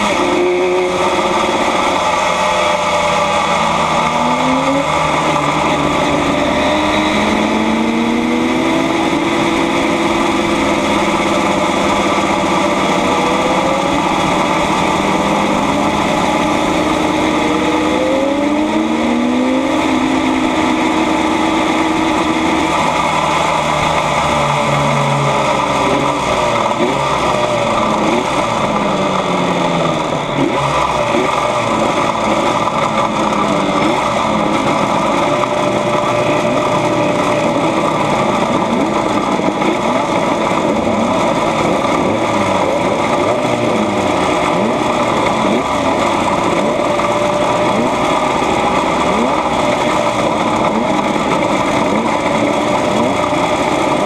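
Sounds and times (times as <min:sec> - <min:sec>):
two-stroke motorcycle revving: 0:00.0 - 0:54.0.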